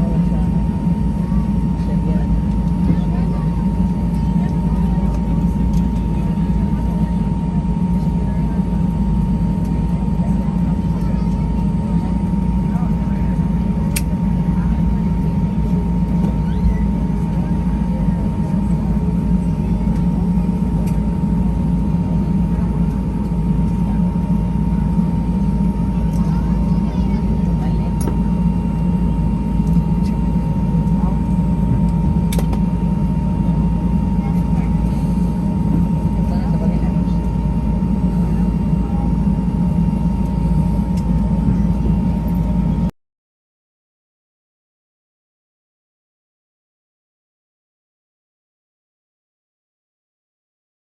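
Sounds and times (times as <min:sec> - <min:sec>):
airplane cabin rumble: 0:00.0 - 0:42.9
thin steady whine: 0:00.0 - 0:42.9.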